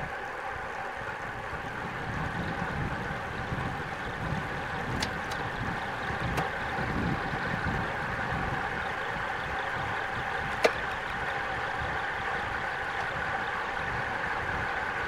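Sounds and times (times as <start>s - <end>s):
bike tyres rolling on asphalt: 0.0s - 15.0s
wind rushing over microphone: 0.0s - 15.0s.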